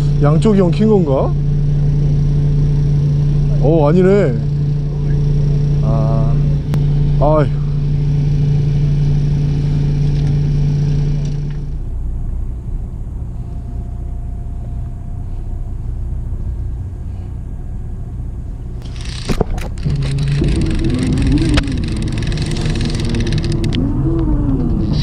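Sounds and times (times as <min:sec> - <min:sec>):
boat engine rumbling: 0:00.0 - 0:25.0
steady hum: 0:00.0 - 0:25.0
wavering high whine: 0:00.0 - 0:25.0.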